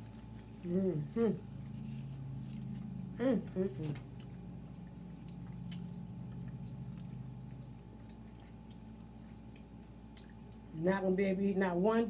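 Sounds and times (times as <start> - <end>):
people chewing food: 0.0 - 11.2
steady low hum: 0.0 - 12.0.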